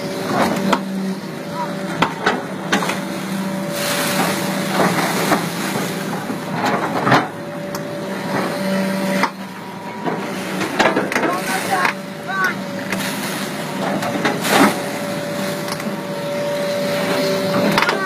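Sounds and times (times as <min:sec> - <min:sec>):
excavator engine humming: 0:00.0 - 0:18.0
water churning and splashing: 0:00.0 - 0:18.0.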